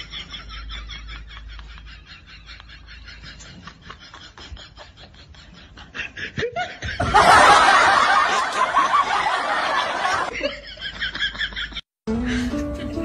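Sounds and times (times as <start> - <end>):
loud laughter: 0.0 - 13.0.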